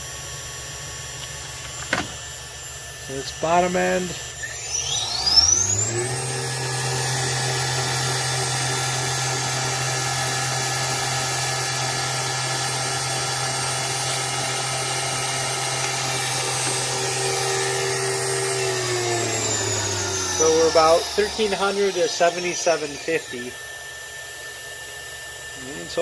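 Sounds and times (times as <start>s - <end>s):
milling spindle motor whine: 0.0s - 26.0s.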